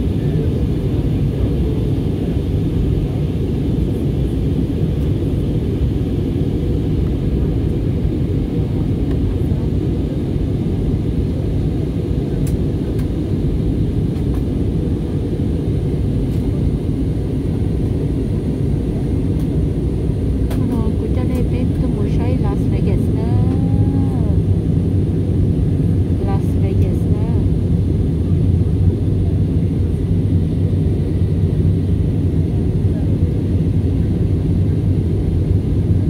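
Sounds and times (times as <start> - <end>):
airliner cabin engine rush: 0.0 - 36.0.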